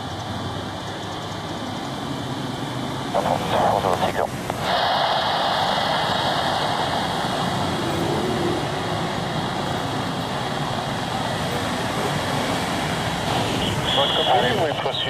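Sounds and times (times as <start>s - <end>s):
jet engines of low aircraft: 0.0s - 15.0s.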